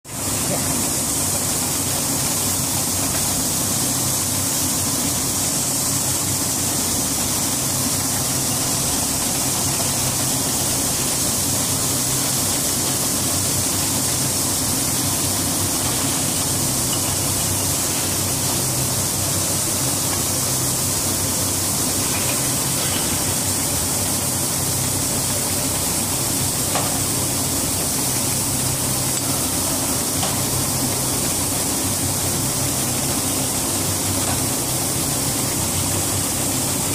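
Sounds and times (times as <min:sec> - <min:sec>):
water spraying hiss: 0:00.1 - 0:36.9.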